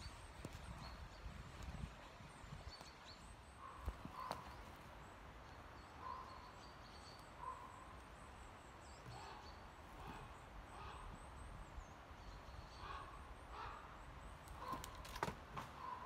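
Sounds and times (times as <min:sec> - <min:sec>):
woodland birds calling: 0:00.0 - 0:16.0.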